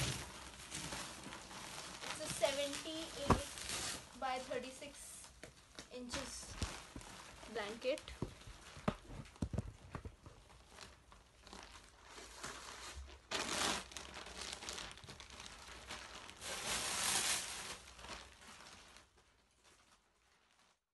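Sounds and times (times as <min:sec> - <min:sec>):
plastic wrapping crinkling: 0:00.0 - 0:20.9.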